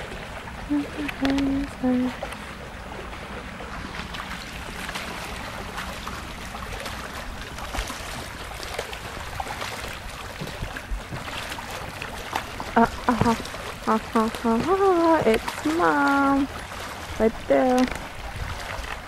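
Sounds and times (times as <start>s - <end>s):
boots splashing through water: 0.0s - 19.0s
floodwater rushing: 0.0s - 19.0s.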